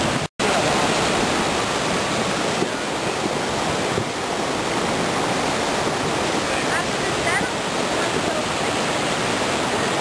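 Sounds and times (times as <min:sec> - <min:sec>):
flood water rushing in creek: 0:00.0 - 0:10.0.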